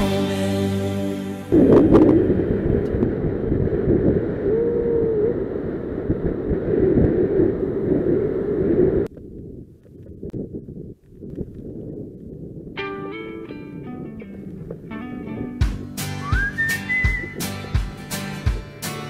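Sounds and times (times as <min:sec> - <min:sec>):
wind buffeting microphone: 0:01.5 - 0:18.0.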